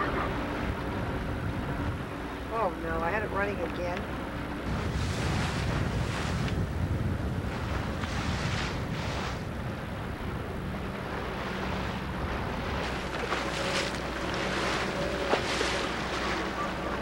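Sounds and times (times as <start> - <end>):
low steady rumble: 0.0 - 17.0
wind buffeting microphone: 0.0 - 17.0.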